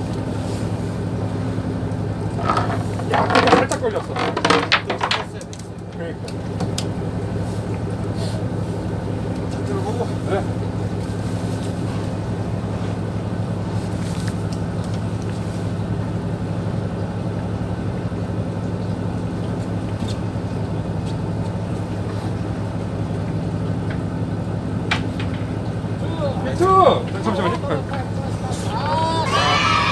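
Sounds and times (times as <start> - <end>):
boat engine droning: 0.0 - 29.9.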